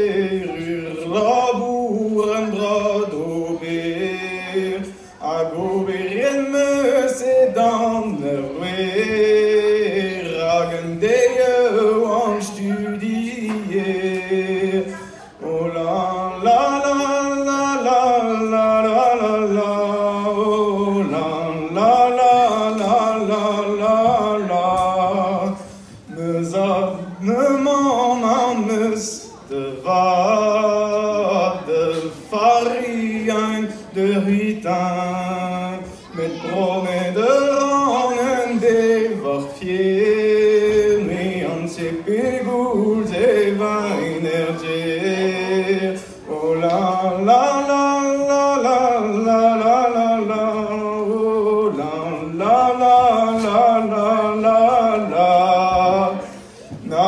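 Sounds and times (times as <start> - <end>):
man singing unaccompanied: 0.0 - 57.0.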